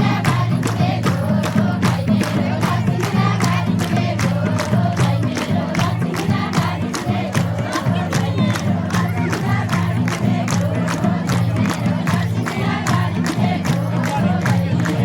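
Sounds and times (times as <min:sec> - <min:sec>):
crowd voices: 0:00.0 - 0:15.0
fast drum beat: 0:00.0 - 0:15.0
group singing folk song: 0:00.0 - 0:15.0.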